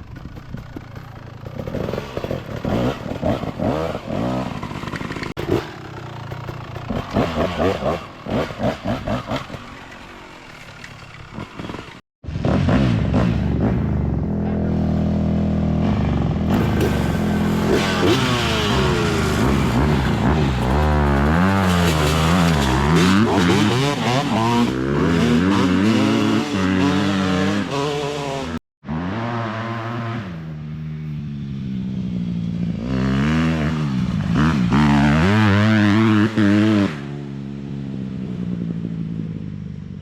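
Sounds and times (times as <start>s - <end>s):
dirt bike engine revving: 0.2s - 38.0s.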